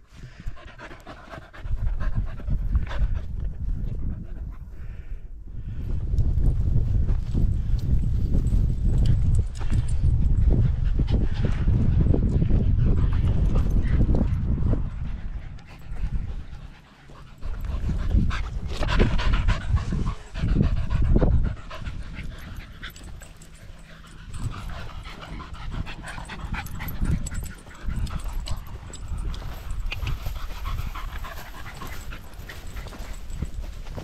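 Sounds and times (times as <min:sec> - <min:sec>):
dogs panting: 0:00.0 - 0:05.2, 0:07.2 - 0:34.0.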